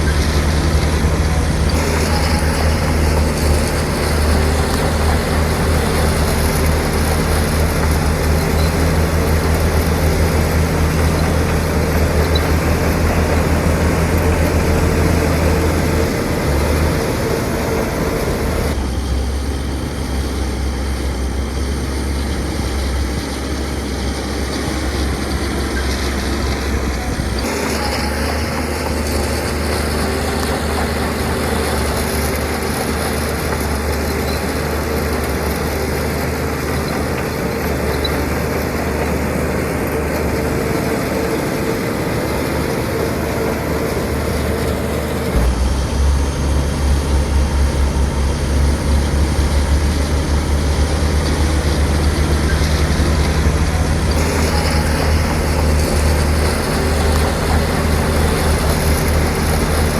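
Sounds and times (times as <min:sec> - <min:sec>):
heavy diesel machinery running: 0:00.0 - 0:59.9
low throbbing engine: 0:00.0 - 0:59.9.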